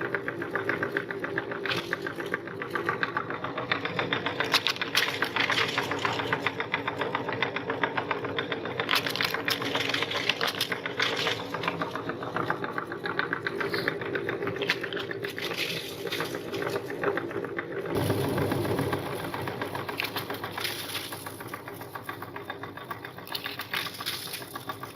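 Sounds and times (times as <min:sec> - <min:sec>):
cookies crackling and crunching: 0:00.0 - 0:03.4, 0:04.3 - 0:06.7, 0:08.7 - 0:17.3, 0:18.0 - 0:24.9
meat grinder motor hum: 0:00.0 - 0:24.9.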